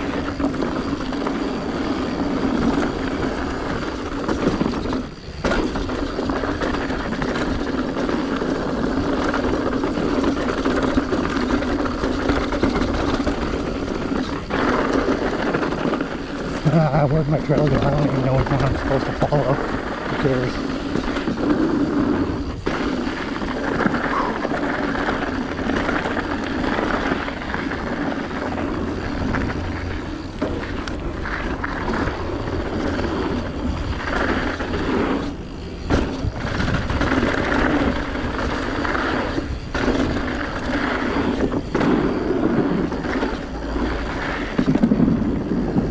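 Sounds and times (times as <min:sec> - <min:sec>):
bike rattling: 0:00.0 - 0:45.9
tyres rolling on dirt and rock: 0:00.0 - 0:45.9
wind buffeting microphone: 0:00.0 - 0:45.9.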